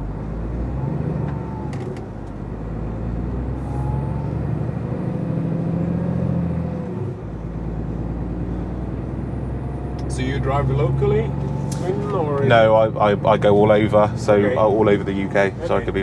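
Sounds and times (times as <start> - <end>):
truck diesel engine pulling away: 0.0 - 16.0.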